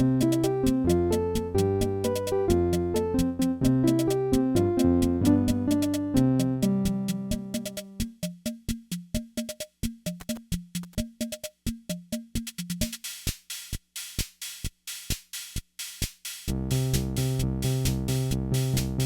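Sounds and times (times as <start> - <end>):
electronic drum blips: 0.0 - 19.0
ticking hi-hats: 0.0 - 19.0.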